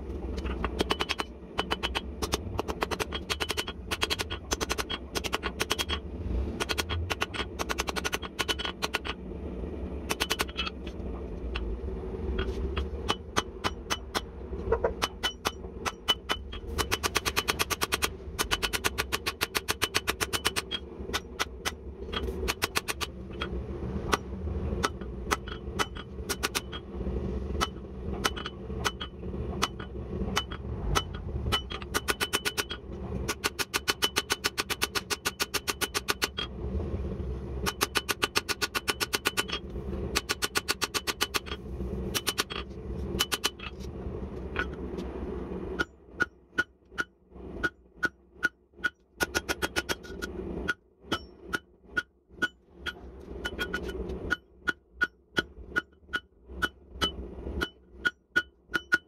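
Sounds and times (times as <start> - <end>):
steady low hum: 0.0 - 58.7.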